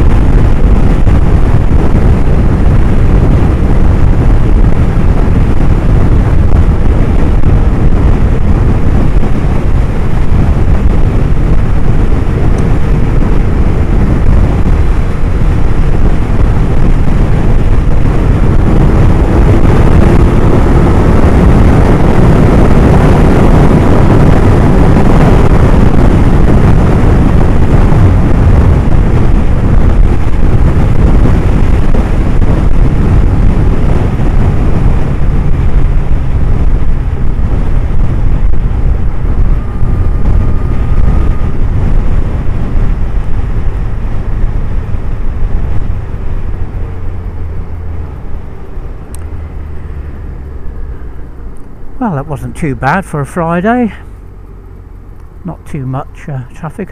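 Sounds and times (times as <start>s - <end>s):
motorcycle engine cruising: 0.0s - 56.9s
road and wind noise: 0.0s - 56.9s.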